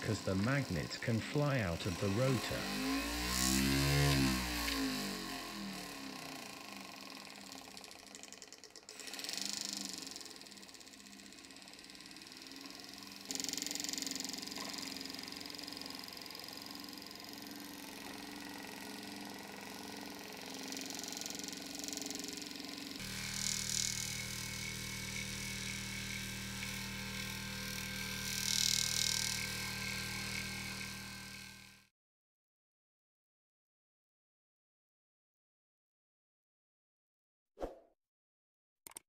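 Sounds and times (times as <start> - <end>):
electric motor whine: 0.0 - 31.9.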